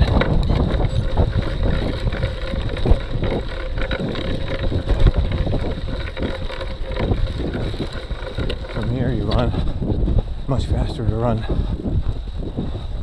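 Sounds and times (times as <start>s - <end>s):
bike rattling: 0.0s - 13.0s
tyres churning in sand: 0.0s - 13.0s
wind on microphone: 0.0s - 13.0s.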